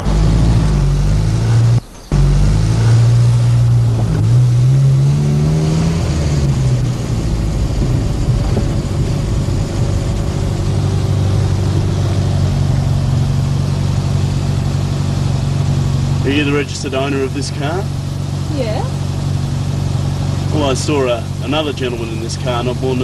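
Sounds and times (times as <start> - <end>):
car engine running inside car: 0.0 - 23.0.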